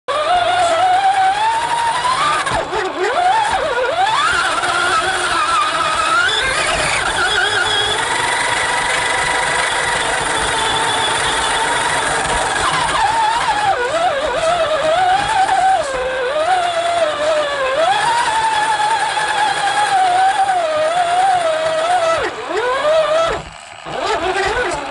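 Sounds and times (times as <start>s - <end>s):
model vehicle motor running: 0.1s - 24.9s.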